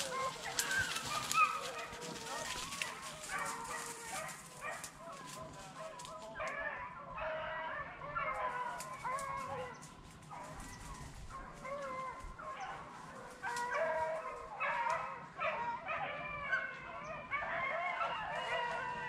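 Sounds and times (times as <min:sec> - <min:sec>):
dogs baying: 0:00.0 - 0:19.0.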